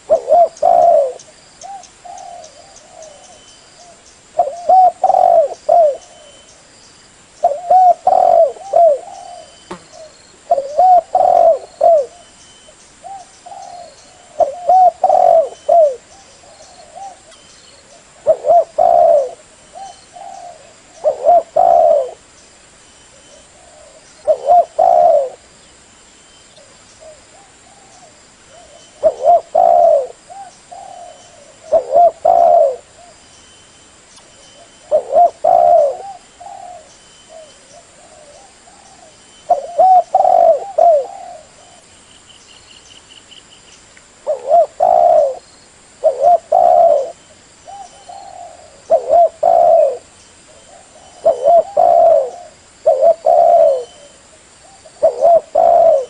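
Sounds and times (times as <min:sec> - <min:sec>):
dove cooing: 0:00.0 - 0:06.5, 0:07.4 - 0:12.4, 0:13.0 - 0:22.3, 0:23.1 - 0:25.5, 0:26.6 - 0:33.2, 0:34.4 - 0:41.9, 0:44.2 - 0:45.4, 0:46.0 - 0:56.0.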